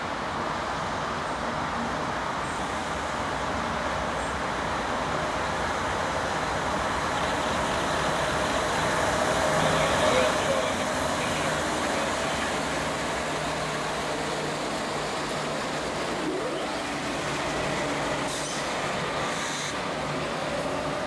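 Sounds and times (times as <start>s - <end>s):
diesel locomotive engine hum: 0.0s - 21.0s
train wheels on rails: 0.0s - 21.0s.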